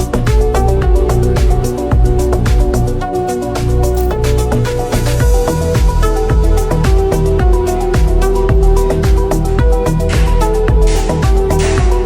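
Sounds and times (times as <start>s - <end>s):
held melodic notes: 0.0s - 12.0s
steady drum beat: 0.0s - 12.0s.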